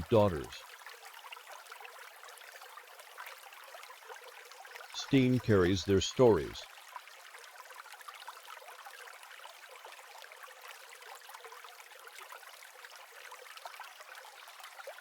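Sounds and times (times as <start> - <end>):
faint trickling water: 0.0 - 15.0.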